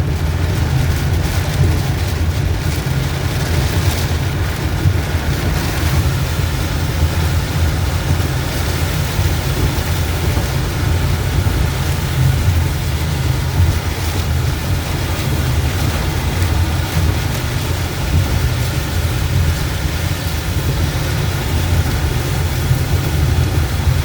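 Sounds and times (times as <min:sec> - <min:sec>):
rain: 0:00.0 - 0:24.0
road and engine rumble: 0:00.0 - 0:24.0
wind noise: 0:00.0 - 0:24.0.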